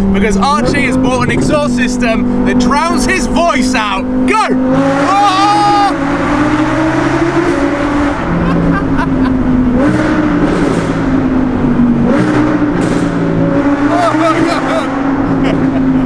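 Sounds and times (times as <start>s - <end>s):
car engine revving in a tunnel: 0.0s - 16.0s.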